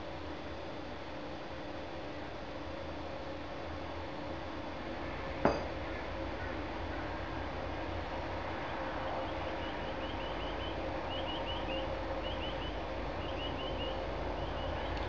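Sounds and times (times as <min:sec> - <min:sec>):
background hiss and hum: 0:00.0 - 0:15.0.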